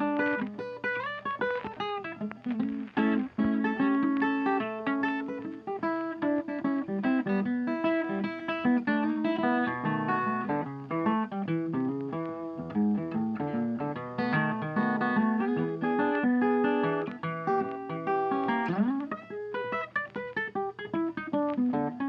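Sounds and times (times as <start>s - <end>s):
plucked acoustic guitar: 0.0s - 22.0s.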